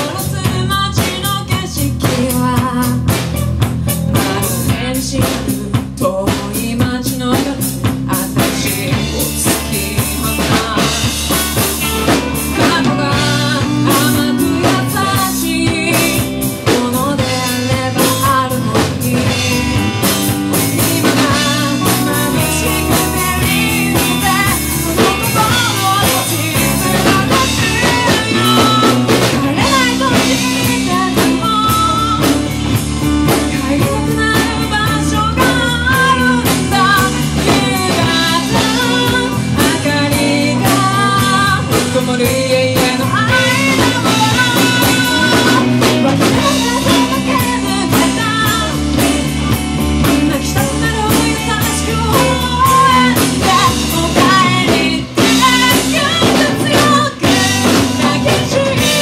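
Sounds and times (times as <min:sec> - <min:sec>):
bass guitar: 0:00.0 - 0:59.0
drum kit: 0:00.0 - 0:59.0
electric guitars: 0:00.0 - 0:59.0
woman singing: 0:00.0 - 0:59.0.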